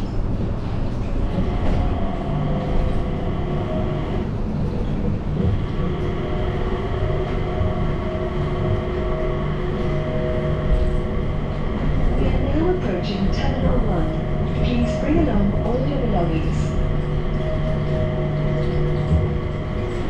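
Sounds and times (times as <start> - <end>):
train rumbling on guideway: 0.0 - 20.0.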